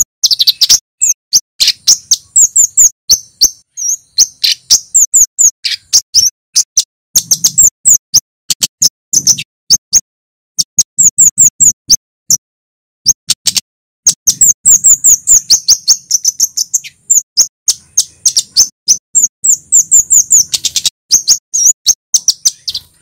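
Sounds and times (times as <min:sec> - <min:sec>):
bird chirping sharp high notes: 0:00.0 - 0:12.4, 0:13.1 - 0:23.0.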